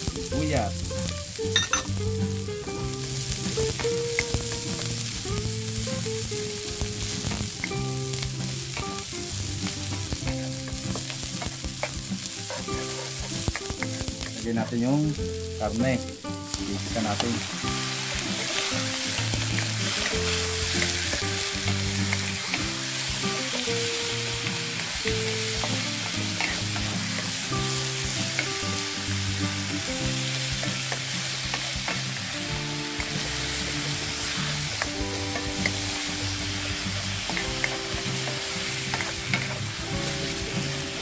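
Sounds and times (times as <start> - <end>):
background music of low notes: 0.0 - 41.0
meat sizzling in hot oil: 0.0 - 41.0.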